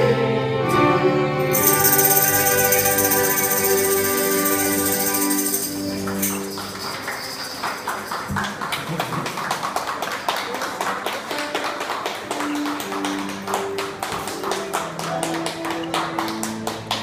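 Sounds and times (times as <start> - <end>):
scattered clapping: 2.9 - 17.0.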